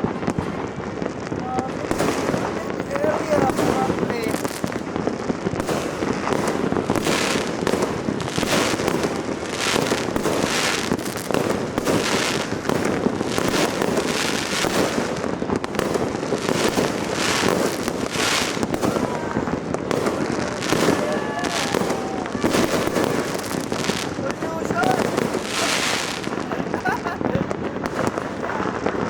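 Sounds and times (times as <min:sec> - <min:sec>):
fireworks crackling and banging: 0:00.0 - 0:29.0.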